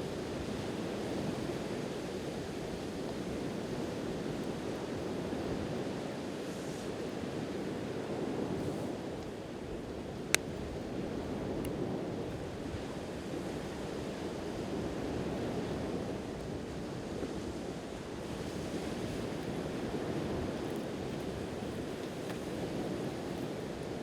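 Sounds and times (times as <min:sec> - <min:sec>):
ocean waves washing on shore: 0:00.0 - 0:24.0
wind on microphone: 0:00.0 - 0:24.0.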